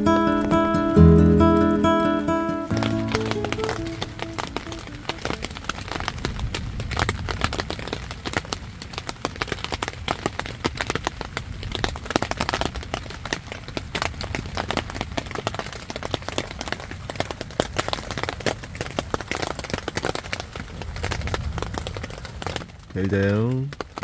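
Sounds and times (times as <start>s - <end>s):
rain on a tent: 0.0s - 24.0s.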